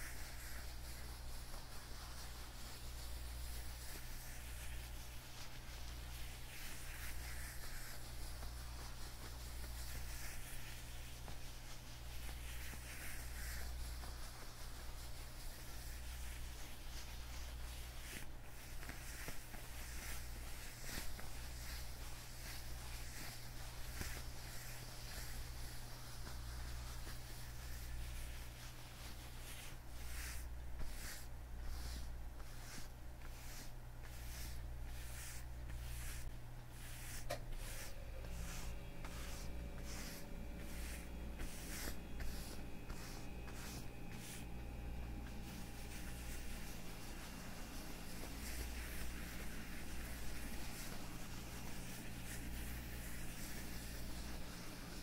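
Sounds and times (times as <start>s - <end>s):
leather gloves rustling and creaking: 0.0s - 55.0s.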